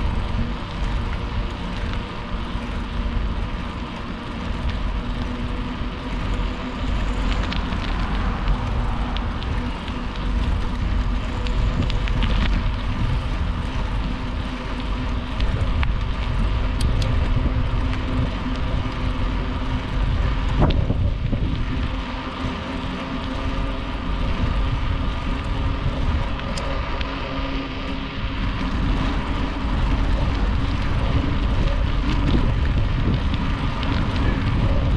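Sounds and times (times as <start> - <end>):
bicycle tyres humming on asphalt: 0.0 - 34.9
wind rumbling on microphone: 0.0 - 34.9.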